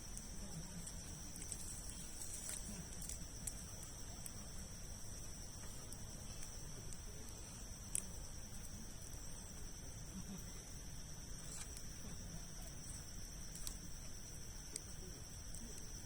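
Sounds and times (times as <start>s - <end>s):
campfire burning with crackling pops: 0.0s - 16.0s
insect chirring: 0.0s - 16.0s.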